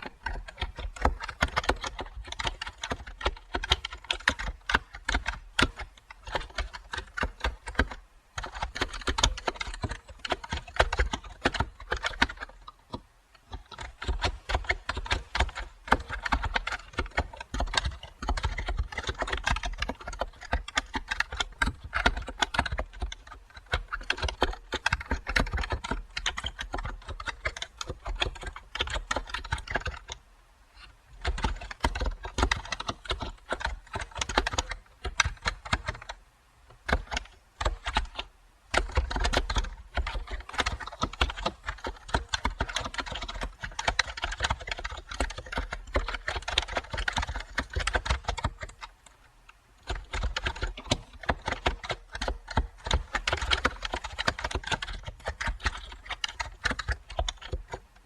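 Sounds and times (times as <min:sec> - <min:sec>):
computer keyboard typing: 0:00.0 - 0:30.2, 0:31.1 - 0:58.0.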